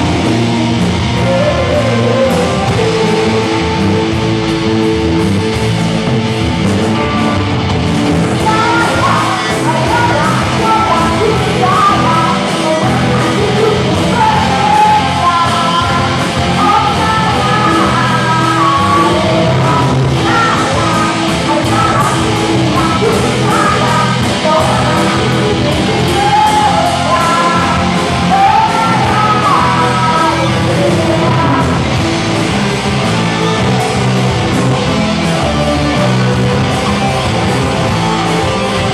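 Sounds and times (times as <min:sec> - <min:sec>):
person singing: 0:00.0 - 0:05.6, 0:08.0 - 0:38.9
live rock band playing: 0:00.0 - 0:38.9.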